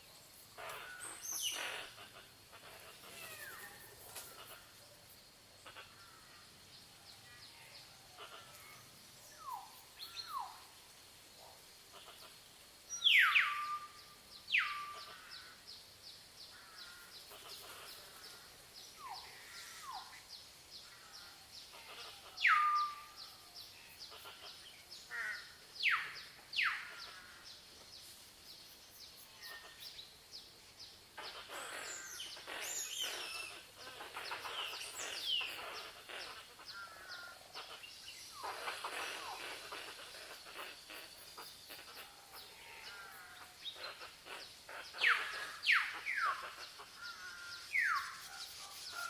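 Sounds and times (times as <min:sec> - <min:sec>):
mixed bird chatter: 0:00.0 - 0:10.8, 0:11.4 - 0:49.0.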